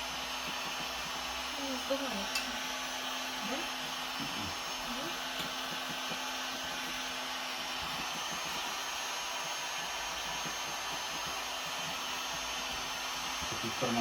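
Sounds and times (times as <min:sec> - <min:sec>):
heat gun hissing: 0:00.0 - 0:14.0.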